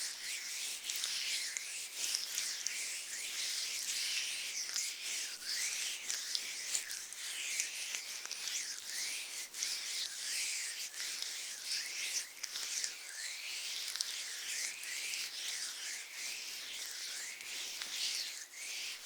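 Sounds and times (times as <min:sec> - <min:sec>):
small crackles: 0:00.1 - 0:15.9.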